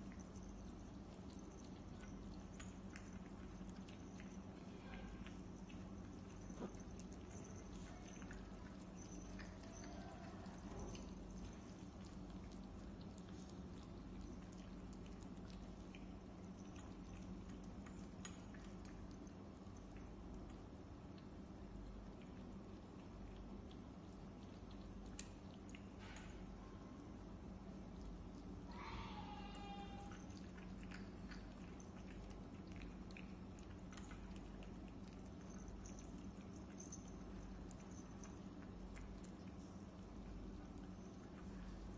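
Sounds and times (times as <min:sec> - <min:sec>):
cats chewing and licking: 0:00.0 - 0:41.9.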